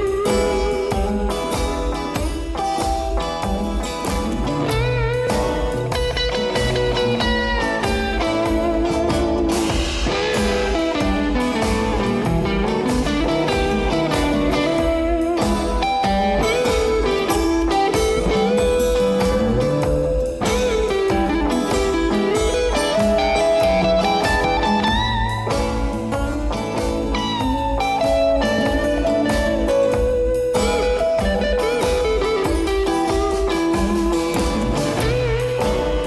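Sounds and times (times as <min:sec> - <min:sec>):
bluesy slide guitar over beat: 0:00.0 - 0:36.0.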